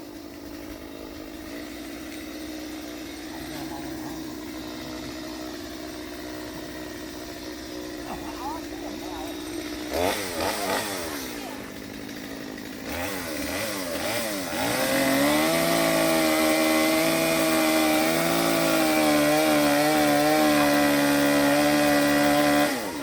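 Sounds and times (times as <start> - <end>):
chainsaw engine revving: 0.0 - 23.0.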